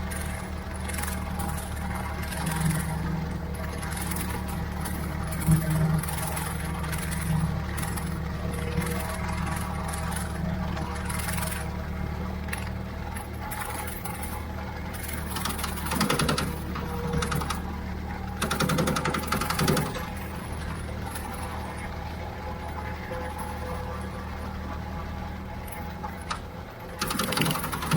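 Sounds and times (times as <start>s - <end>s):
mower rattling clatter: 0.0s - 27.9s
tractor engine running: 0.0s - 27.9s.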